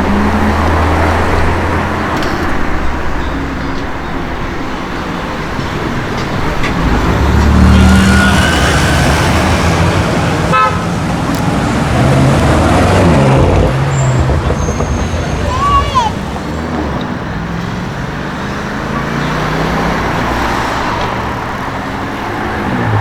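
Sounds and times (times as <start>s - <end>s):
car engine revving: 0.0s - 23.0s
exhaust crackles: 0.0s - 23.0s.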